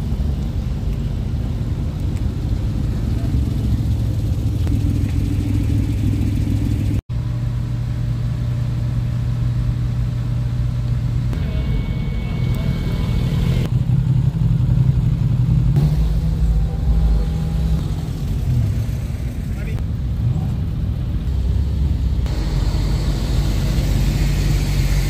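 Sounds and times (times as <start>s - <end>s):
car engines running: 0.0s - 25.0s.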